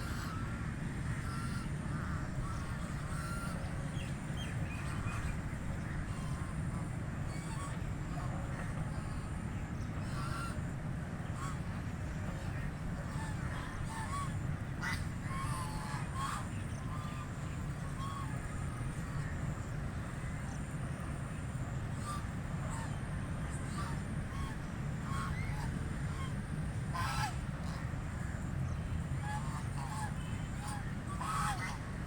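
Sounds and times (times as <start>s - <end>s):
ducks quacking faintly: 0.0s - 32.0s.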